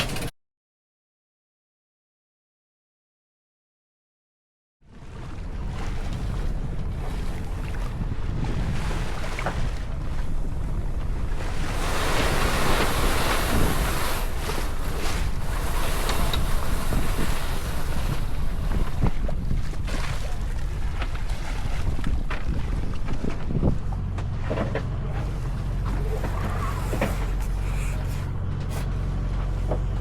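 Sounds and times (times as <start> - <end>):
water rushing past hull: 4.9 - 30.0
wind buffeting microphone: 4.9 - 30.0.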